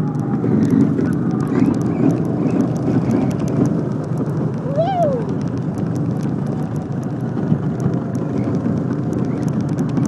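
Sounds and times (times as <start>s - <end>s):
go-kart engine running: 0.0s - 10.0s.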